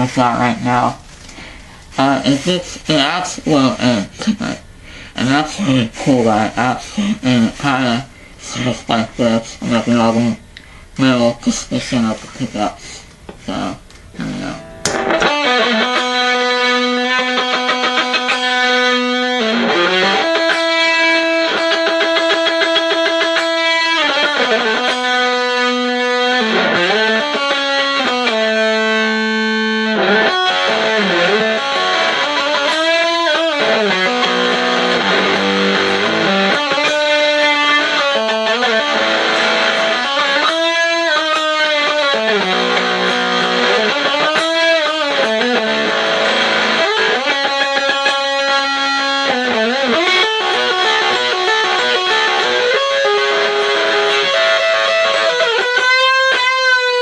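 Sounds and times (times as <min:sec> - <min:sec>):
distorted electric guitar bends: 0:00.0 - 0:57.0.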